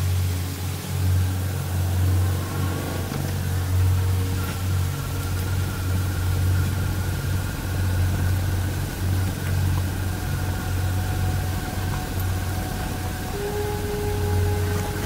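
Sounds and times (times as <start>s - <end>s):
constant rushing noise: 0.0s - 15.0s.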